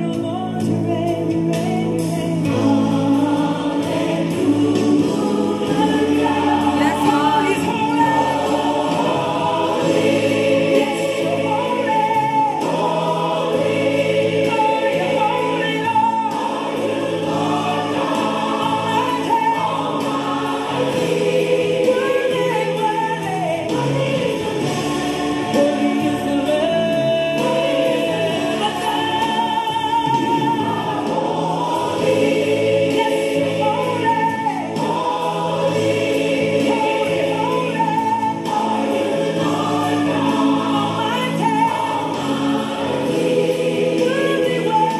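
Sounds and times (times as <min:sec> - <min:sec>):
gospel choir singing: 0:00.0 - 0:44.9
steady musical accompaniment: 0:00.0 - 0:44.9.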